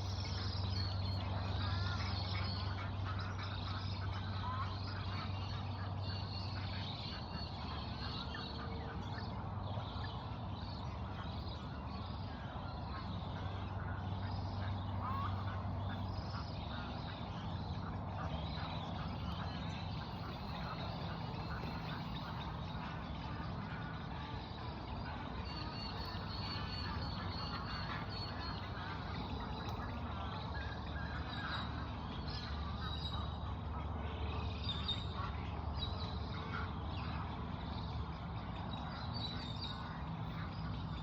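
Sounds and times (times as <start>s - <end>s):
birds chirping in chorus: 0.0s - 41.0s.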